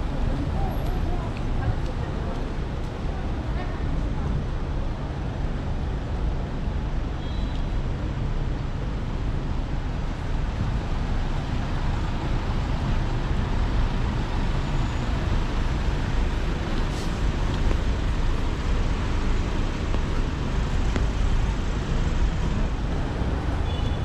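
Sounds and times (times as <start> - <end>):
cars and buses driving past: 0.0 - 24.0.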